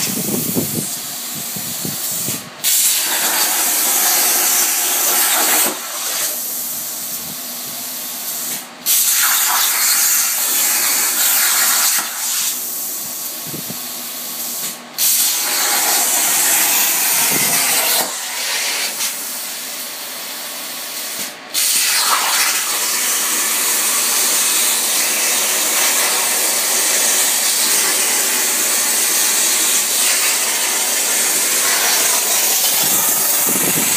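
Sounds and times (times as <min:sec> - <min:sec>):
plasma torch cutting steel hiss: 0:00.0 - 0:33.9.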